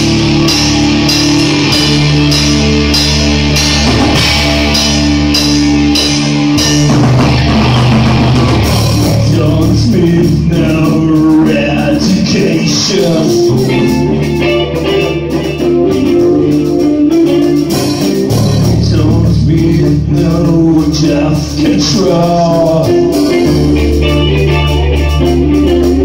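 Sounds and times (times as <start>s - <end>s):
bass guitar: 0.0s - 26.0s
drum kit: 0.0s - 26.0s
electric guitars: 0.0s - 26.0s.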